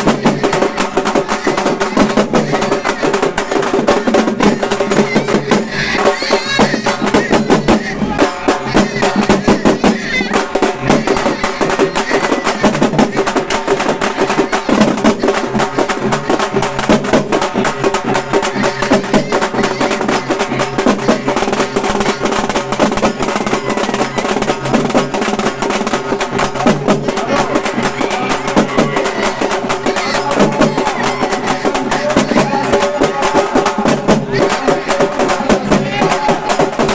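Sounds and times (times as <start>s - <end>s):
frame drums beaten fast: 0.0s - 36.9s.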